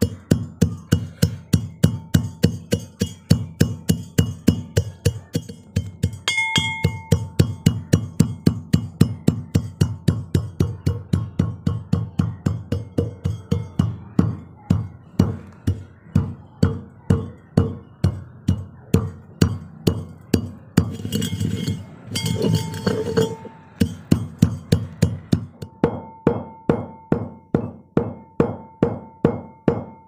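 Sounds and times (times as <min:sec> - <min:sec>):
pestle scraping and grinding: 0:00.0 - 0:25.7
pestle pounding in metal mortar: 0:00.0 - 0:30.0.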